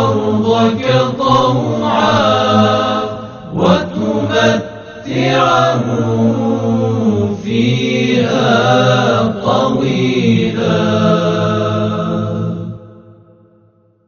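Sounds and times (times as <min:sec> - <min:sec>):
low voice chanting: 0:00.0 - 0:12.8.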